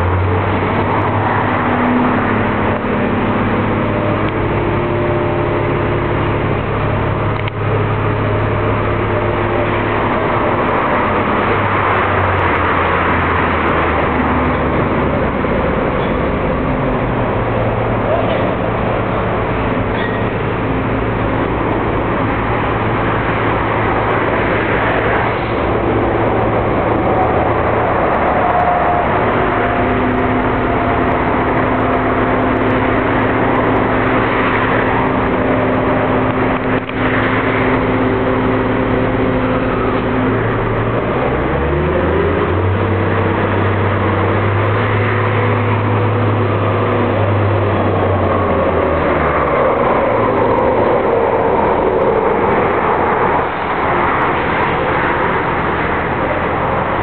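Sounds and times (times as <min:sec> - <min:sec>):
heavy crane engine running: 0:00.0 - 0:57.0.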